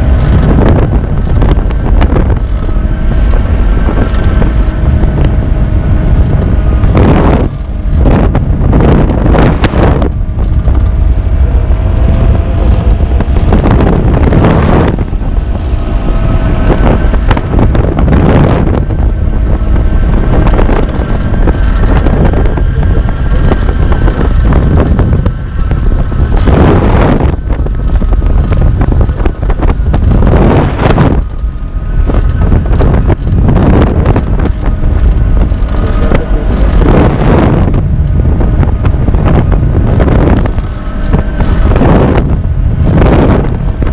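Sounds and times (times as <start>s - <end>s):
aircraft engine and propeller: 0.0s - 43.9s
wind noise on microphone: 0.0s - 43.9s.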